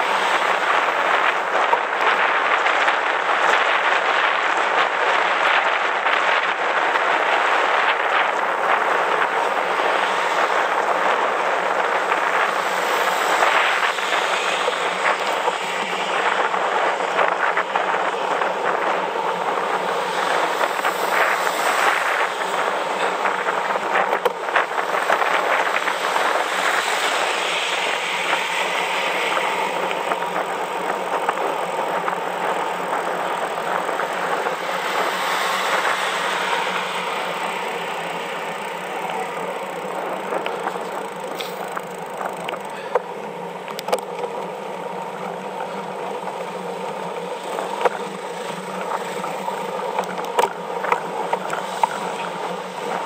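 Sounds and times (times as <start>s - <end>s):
tyre noise on road: 0.0s - 53.0s
wind rushing over microphone: 0.0s - 53.0s.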